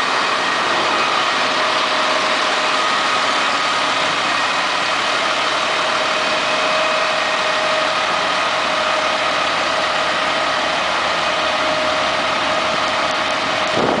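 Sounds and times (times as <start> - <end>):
fire engine diesel idling: 0.0 - 14.0
high-pitched whine: 0.0 - 14.0.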